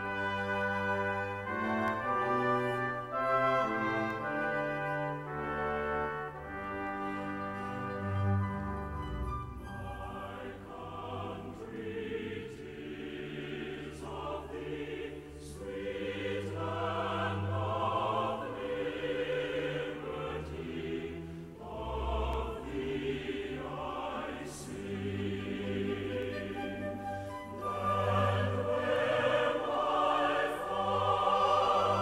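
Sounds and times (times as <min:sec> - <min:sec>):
choir singing sustained notes: 0:00.0 - 0:32.0.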